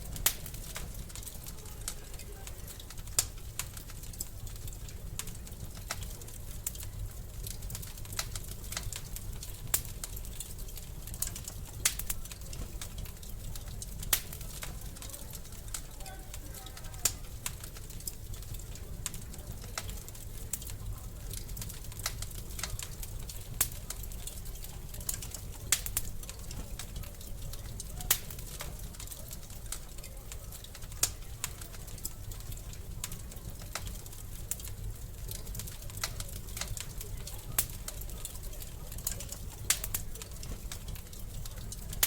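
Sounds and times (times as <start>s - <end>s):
low rumble of flames: 0.0s - 42.0s
wood fire crackling: 0.0s - 42.0s.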